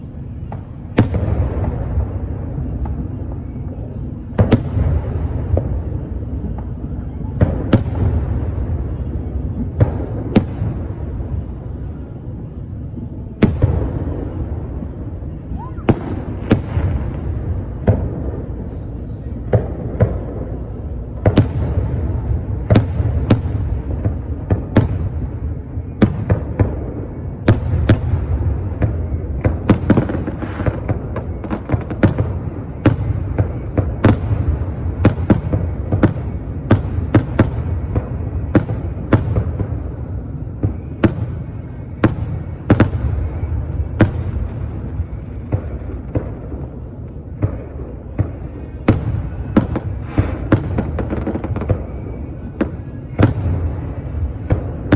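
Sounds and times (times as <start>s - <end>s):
continuous low rumble: 0.0s - 54.9s
faint high-pitched whine: 0.0s - 54.9s
fireworks bangs: 0.0s - 54.9s.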